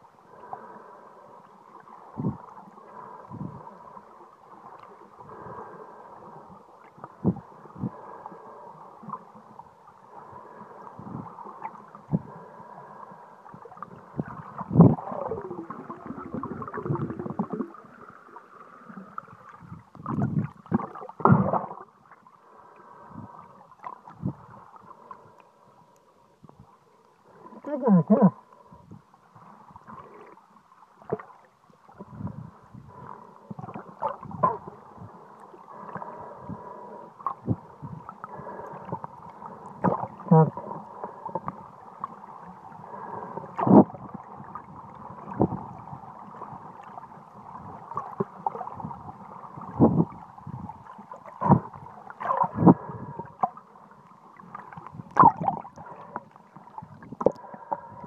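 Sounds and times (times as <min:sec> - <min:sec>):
water rushing and sloshing: 0:00.0 - 0:25.7, 0:26.6 - 0:58.0.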